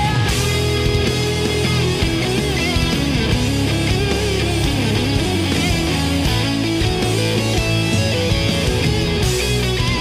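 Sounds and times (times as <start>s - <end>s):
heavy rock instrumental: 0.0s - 10.0s.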